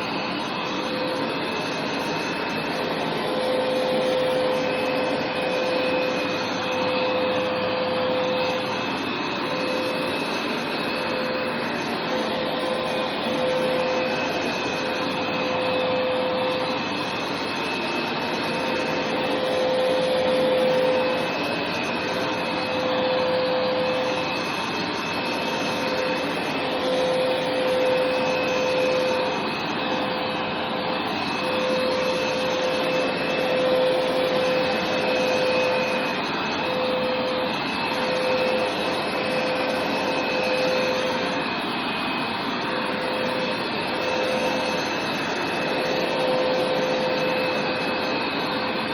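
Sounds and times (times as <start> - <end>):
carpet cleaner running: 0.0 - 48.9.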